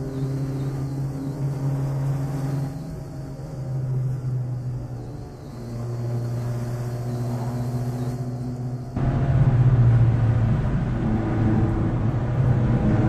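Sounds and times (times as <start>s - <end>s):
car engine humming: 0.0s - 13.0s
road noise: 0.0s - 13.0s.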